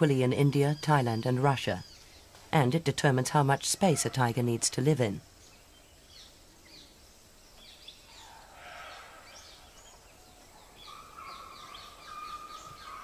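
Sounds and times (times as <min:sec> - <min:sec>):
birds chirping: 0:00.0 - 0:13.0
soft background hiss: 0:00.0 - 0:13.0.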